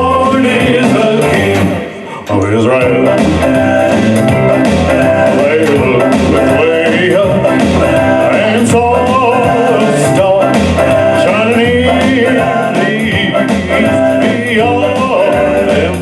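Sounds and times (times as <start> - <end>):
band with guitar and bass: 0.0 - 16.0
man singing gospel song: 0.0 - 16.0.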